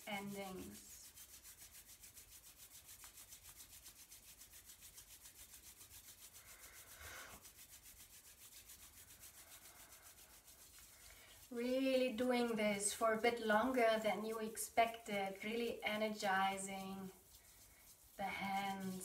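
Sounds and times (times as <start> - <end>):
hands rubbing together: 0.0 - 19.0.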